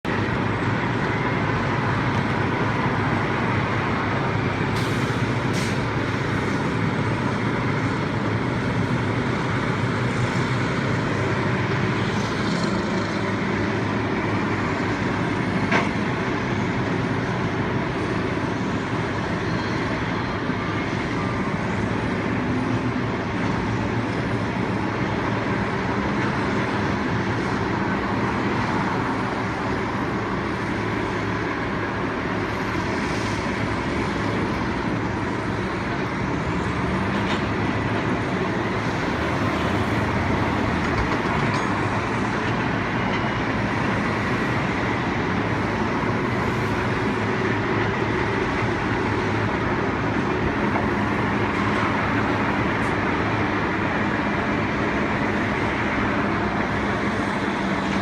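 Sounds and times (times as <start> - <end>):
heavy vehicle engines rumbling: 0.0 - 58.0.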